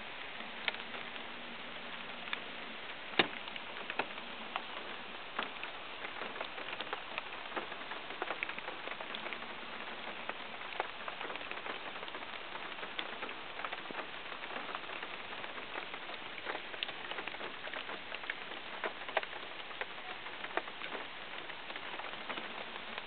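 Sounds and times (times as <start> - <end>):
raindrops ticking close by: 0.0 - 23.0
steady rain hiss: 0.0 - 23.0.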